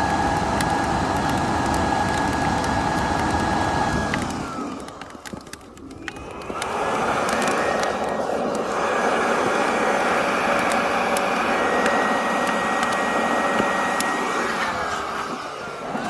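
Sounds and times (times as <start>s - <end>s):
electric blower whining: 0.0s - 16.0s.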